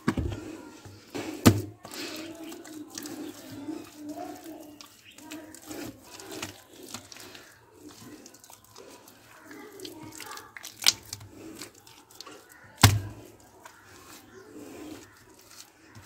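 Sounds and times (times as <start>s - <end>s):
wet mud squelching: 1.3s - 16.0s.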